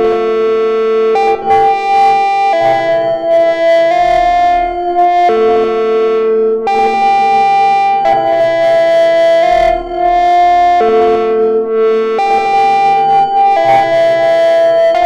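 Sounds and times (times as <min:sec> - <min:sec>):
buzzy analog synthesizer pattern: 0:00.0 - 0:15.0.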